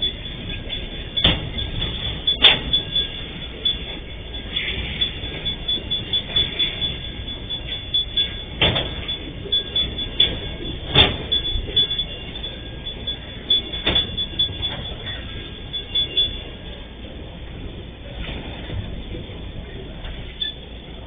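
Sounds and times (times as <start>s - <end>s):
freight wagons rolling and rattling: 0.0s - 17.2s.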